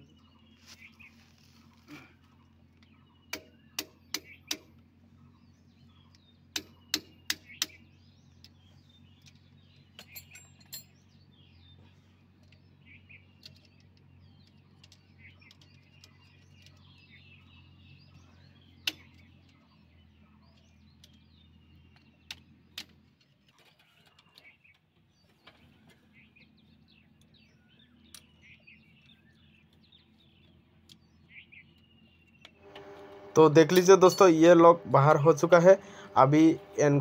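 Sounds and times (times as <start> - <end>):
birds chirping faintly: 0.0 - 37.0.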